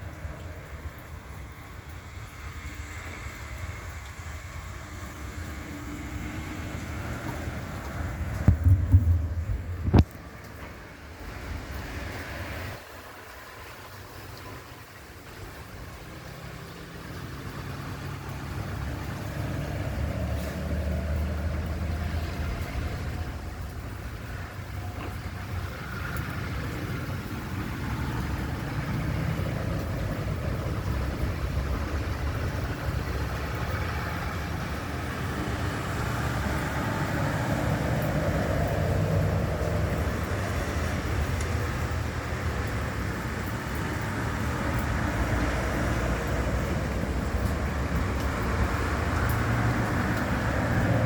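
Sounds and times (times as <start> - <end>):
road vehicle rumble with hiss: 0.0 - 51.0.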